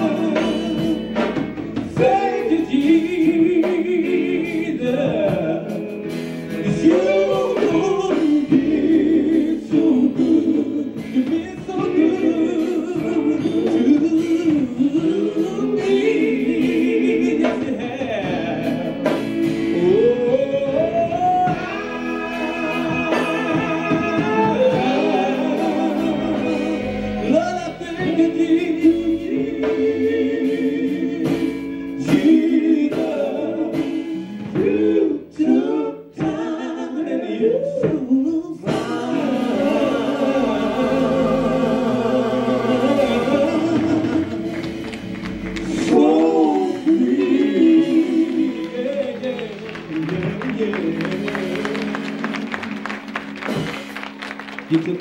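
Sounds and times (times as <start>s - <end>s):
electric guitar: 0.0s - 35.0s, 38.6s - 55.0s
male vocal quartet singing: 0.0s - 53.0s, 54.7s - 55.0s.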